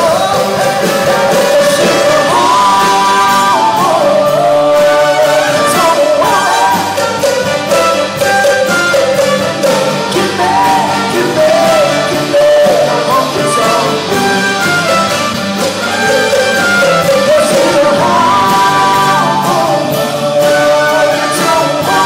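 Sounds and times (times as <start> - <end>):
band playing music: 0.0 - 22.0.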